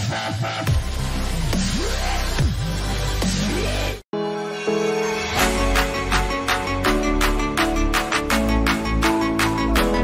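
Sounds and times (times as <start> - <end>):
dubstep music with sweeping bass: 0.0 - 10.0.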